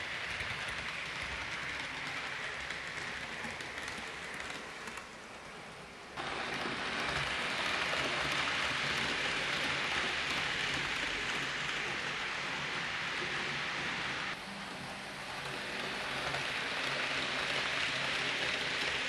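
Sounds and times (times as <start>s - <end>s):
model train wheels rattling on rails: 0.0s - 5.4s, 6.2s - 14.4s, 15.3s - 19.0s.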